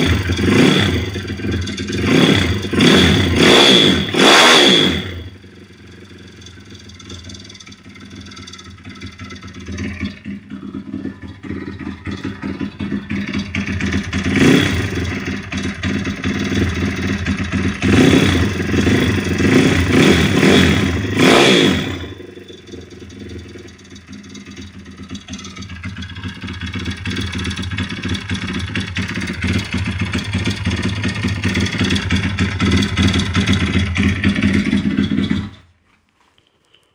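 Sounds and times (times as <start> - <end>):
motorbike engine idling: 0.0 - 35.8.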